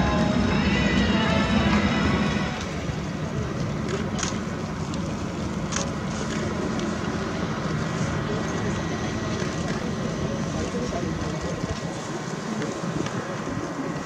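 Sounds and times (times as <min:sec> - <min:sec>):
machinery hum with high whine: 0:00.0 - 0:14.0.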